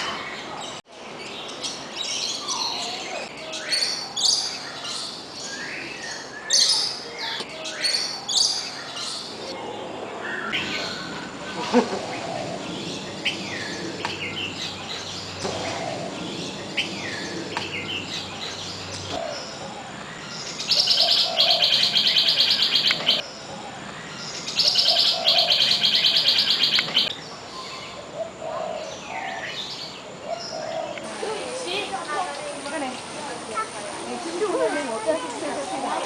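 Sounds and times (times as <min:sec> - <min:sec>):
bird calls and chirps: 0:00.0 - 0:36.0.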